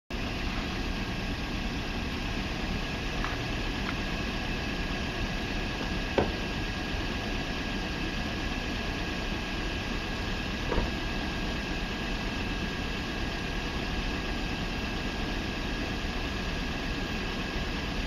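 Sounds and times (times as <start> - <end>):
distant freight train rumble: 0.1 - 18.0.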